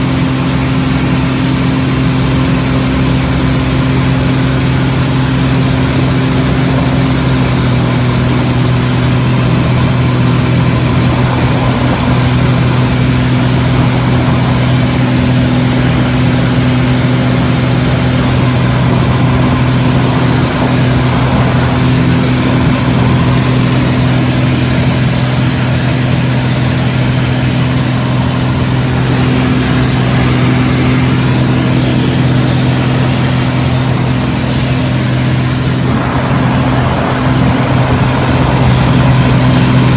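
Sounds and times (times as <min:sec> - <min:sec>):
airplane engine and propeller drone: 0:00.0 - 0:39.9
rush of air: 0:07.6 - 0:39.9.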